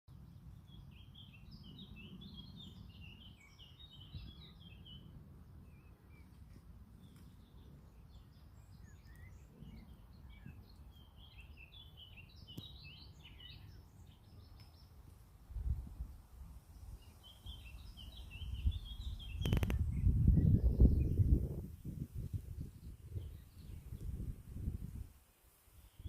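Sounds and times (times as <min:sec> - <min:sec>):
small birds chirping: 0:00.1 - 0:26.0
wind rumbling on microphone: 0:00.2 - 0:25.2.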